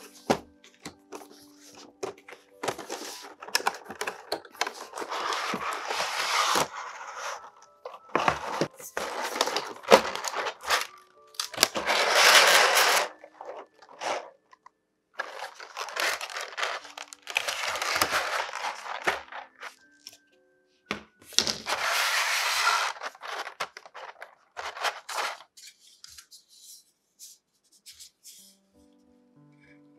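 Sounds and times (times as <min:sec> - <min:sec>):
plastic trays crinkling and scraping: 0:00.0 - 0:14.6, 0:15.2 - 0:19.8, 0:21.3 - 0:26.5.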